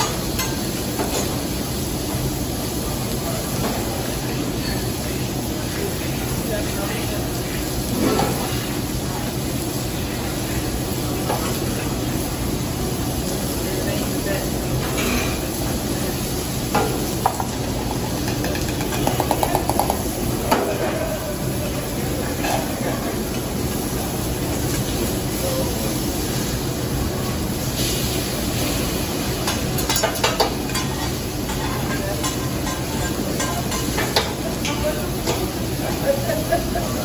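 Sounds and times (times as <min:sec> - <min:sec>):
food sizzling on a griddle: 0:00.0 - 0:37.0.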